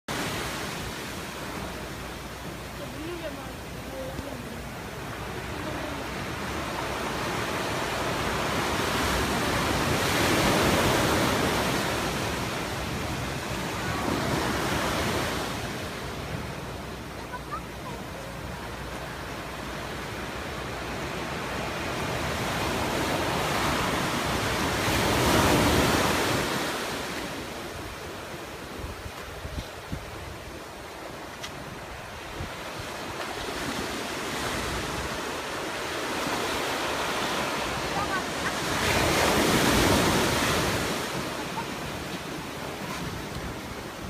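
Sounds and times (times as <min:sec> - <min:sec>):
surf breaking on a beach: 0:00.1 - 0:44.0.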